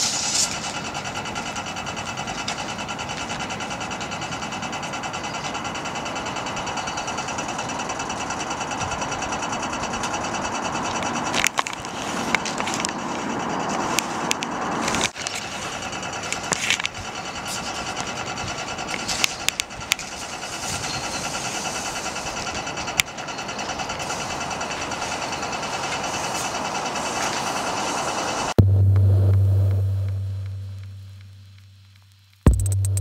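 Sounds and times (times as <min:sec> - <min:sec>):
city street noise: 0:00.0 - 0:33.0.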